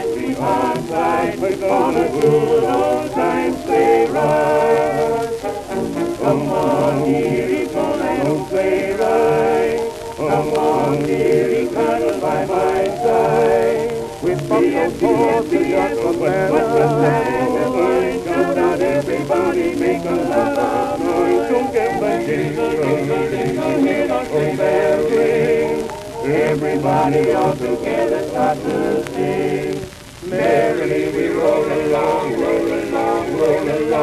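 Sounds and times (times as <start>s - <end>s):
male vocal quartet singing: 0.0s - 34.0s.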